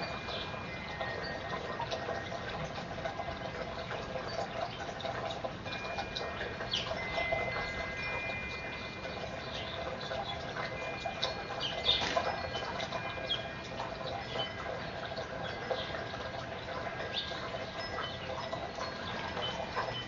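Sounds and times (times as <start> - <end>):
birds chirping and ticking: 0.0 - 20.0
faint ringing tones: 0.0 - 20.0.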